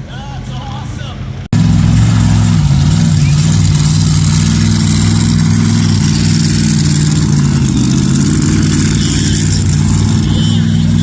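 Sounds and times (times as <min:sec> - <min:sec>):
tractor engine running: 0:01.5 - 0:11.0.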